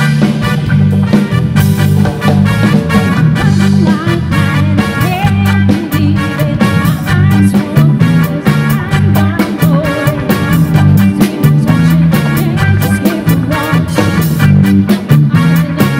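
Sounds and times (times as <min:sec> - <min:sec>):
live band playing dance music: 0:00.0 - 0:15.9.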